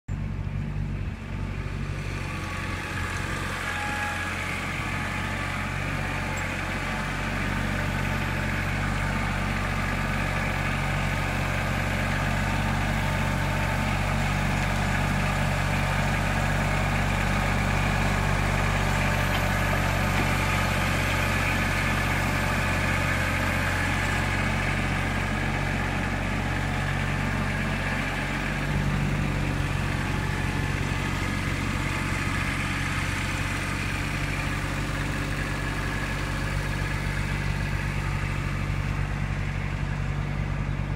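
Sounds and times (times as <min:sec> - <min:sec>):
tractor engine running: 0:00.1 - 0:40.9.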